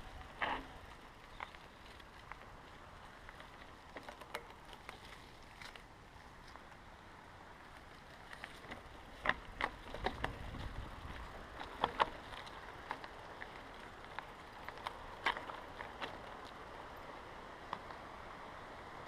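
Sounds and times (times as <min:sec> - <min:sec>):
bicycle rattling on dirt trail: 0:00.0 - 0:19.0.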